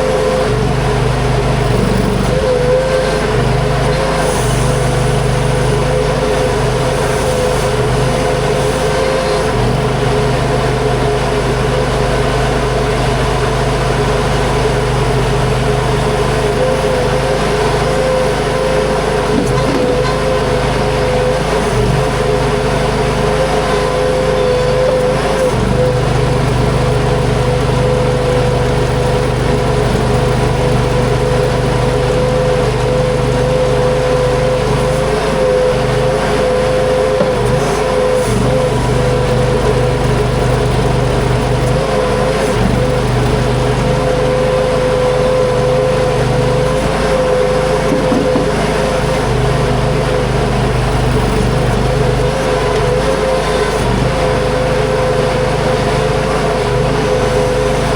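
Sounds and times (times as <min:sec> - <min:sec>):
skid steer engine whining: 0:00.0 - 0:57.9.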